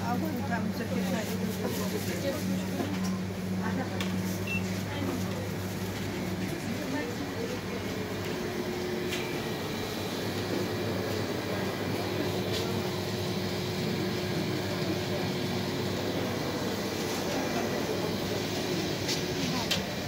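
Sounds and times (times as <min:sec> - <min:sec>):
refrigerator and ventilation hum: 0:00.0 - 0:20.0.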